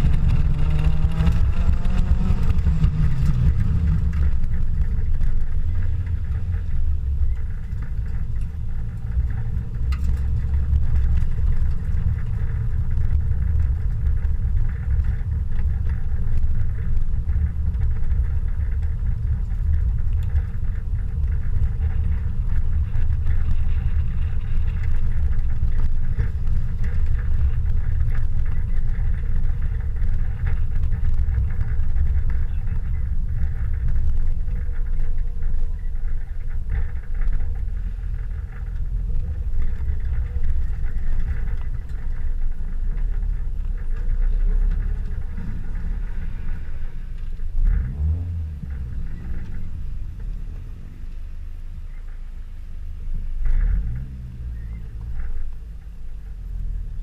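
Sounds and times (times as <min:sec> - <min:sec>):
car engine rumble: 0:00.0 - 0:57.0
road noise: 0:00.0 - 0:57.0.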